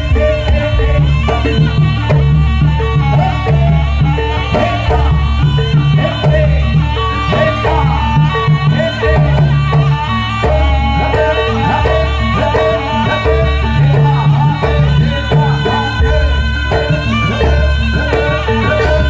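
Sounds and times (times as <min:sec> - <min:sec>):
drum and gong ensemble music: 0:00.0 - 0:19.0.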